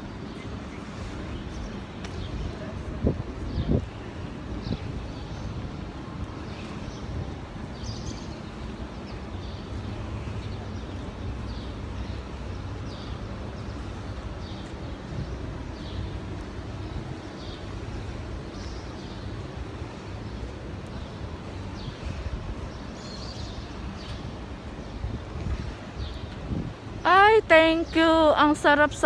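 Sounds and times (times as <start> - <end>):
wind rumble on microphone: 0.0 - 27.8.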